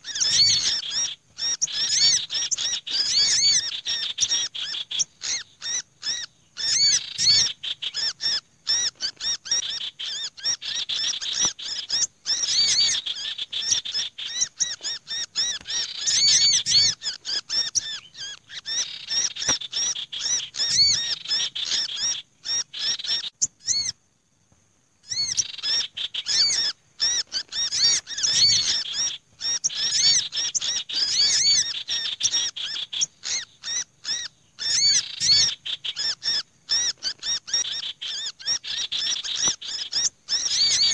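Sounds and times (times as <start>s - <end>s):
small songbirds chirping and scolding: 0.0s - 40.9s.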